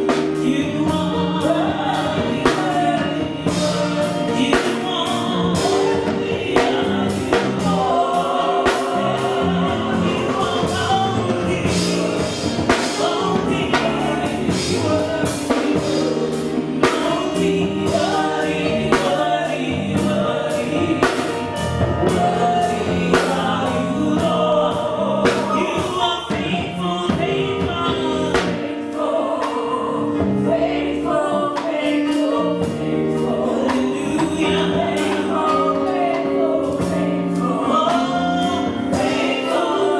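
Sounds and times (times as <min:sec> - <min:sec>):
voices singing over a band: 0:00.0 - 0:39.9.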